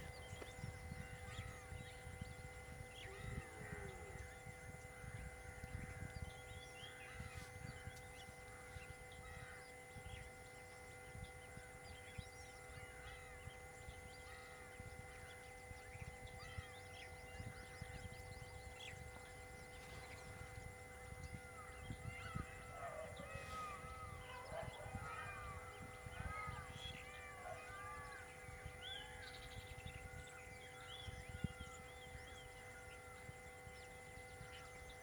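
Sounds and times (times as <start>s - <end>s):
faint electronic tones: 0.0s - 35.0s.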